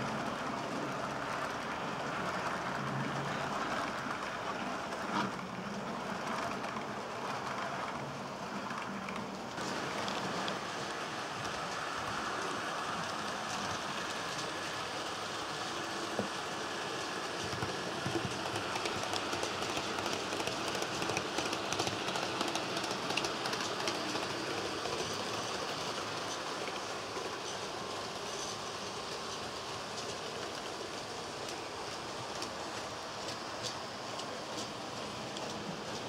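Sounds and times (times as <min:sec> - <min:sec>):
model train wheels on rail: 0:00.0 - 0:36.0.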